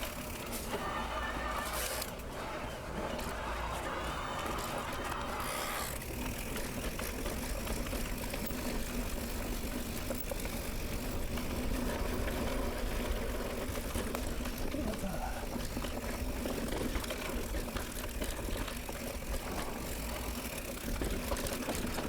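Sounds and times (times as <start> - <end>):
bike rattling: 0.0 - 22.0
bike tyres on dirt trail: 0.0 - 22.0.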